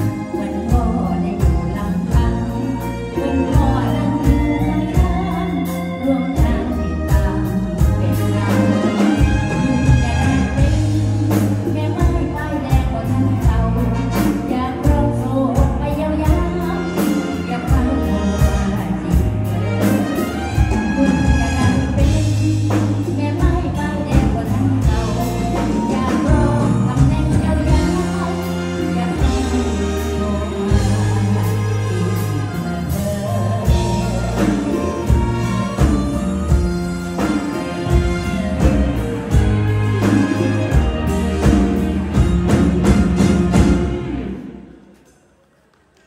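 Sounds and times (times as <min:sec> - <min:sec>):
woman singing: 0:00.0 - 0:44.4
folk-pop band music: 0:00.0 - 0:46.0.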